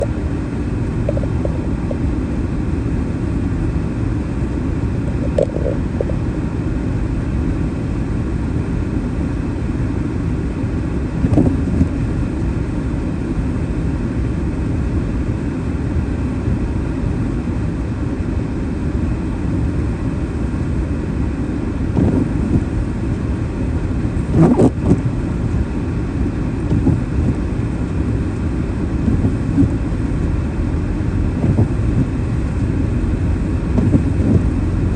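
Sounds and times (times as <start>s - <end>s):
tyres and engine rumble: 0.0s - 34.9s.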